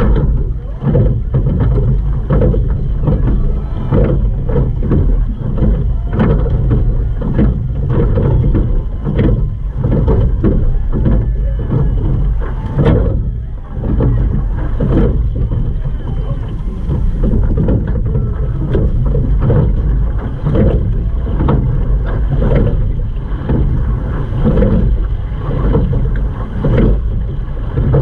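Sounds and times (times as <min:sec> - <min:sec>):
rush of water: 0:00.0 - 0:28.0
water slapping against boat bow: 0:00.0 - 0:28.0
wind on microphone: 0:00.0 - 0:28.0.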